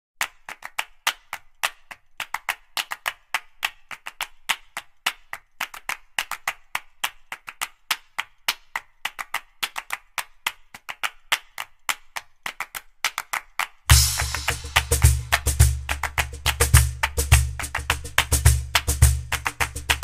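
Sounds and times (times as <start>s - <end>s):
rhythmic clapping beat: 0.2s - 20.0s.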